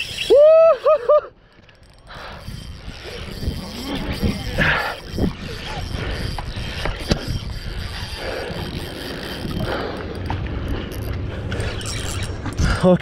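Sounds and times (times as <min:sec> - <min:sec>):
fishing reel whirring and clicking: 0:00.0 - 0:12.9.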